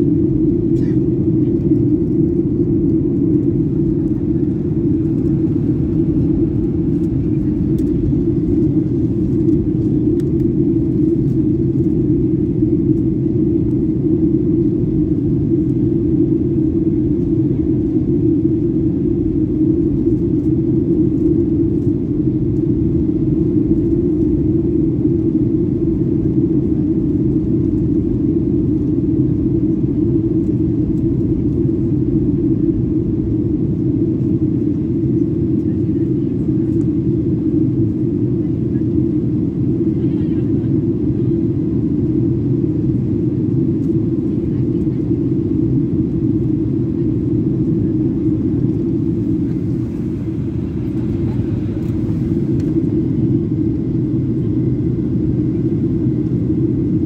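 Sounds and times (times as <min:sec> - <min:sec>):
airliner cabin jet engine drone: 0:00.0 - 0:57.0.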